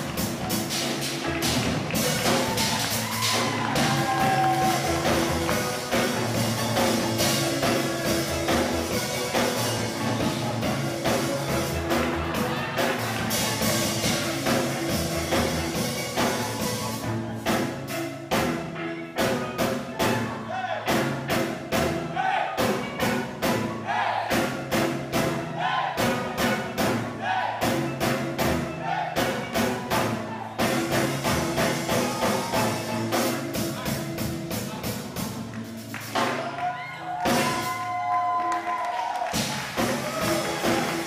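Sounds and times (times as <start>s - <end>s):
drum kit beat: 0.0s - 41.0s.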